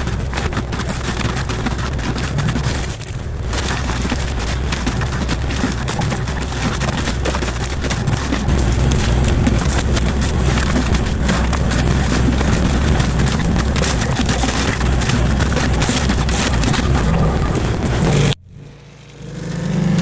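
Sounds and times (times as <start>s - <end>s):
mulcher grinding brush: 0.0s - 18.4s
excavator engine hum: 0.0s - 19.9s.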